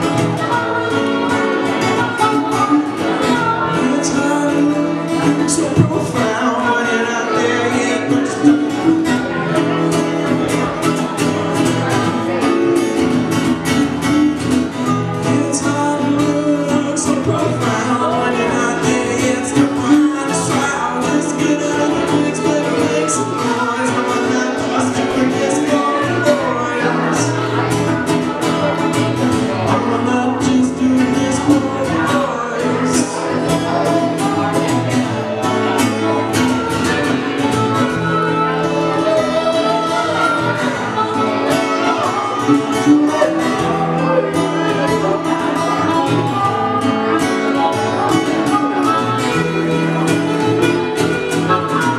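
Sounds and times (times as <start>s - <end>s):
acoustic guitar strummed: 0.0s - 51.9s
double bass plucked: 0.0s - 51.9s
harmonica playing: 0.0s - 51.9s
man singing: 0.0s - 51.9s.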